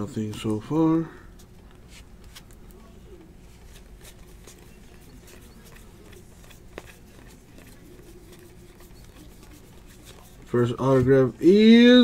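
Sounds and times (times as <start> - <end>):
trading cards flipping: 1.4 - 11.2.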